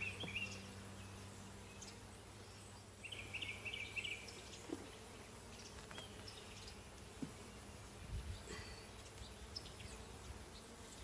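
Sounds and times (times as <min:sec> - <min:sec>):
bees buzzing faintly: 0:00.0 - 0:11.0.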